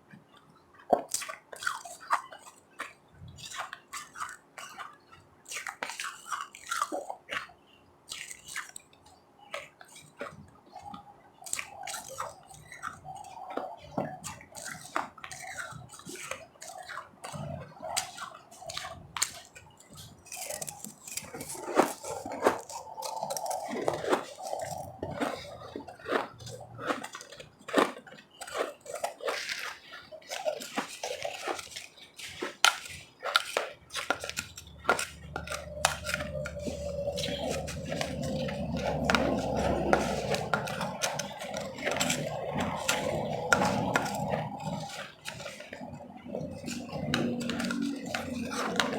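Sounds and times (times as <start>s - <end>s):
ice being chewed: 0.0s - 48.9s.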